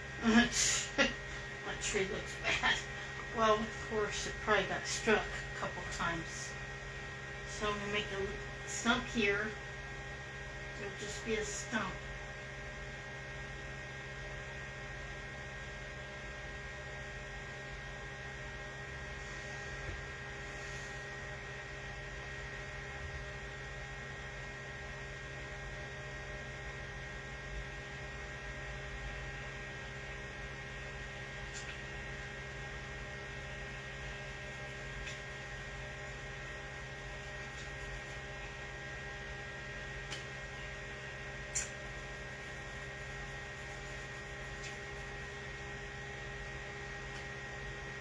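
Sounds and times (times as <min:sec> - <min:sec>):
electrical hum: 0:00.0 - 0:48.0.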